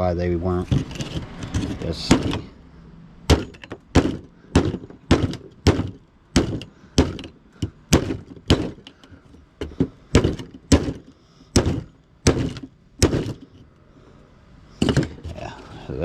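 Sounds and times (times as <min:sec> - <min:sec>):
heavy blows on metal scrap: 0:00.6 - 0:02.6, 0:03.2 - 0:13.7, 0:14.7 - 0:15.8.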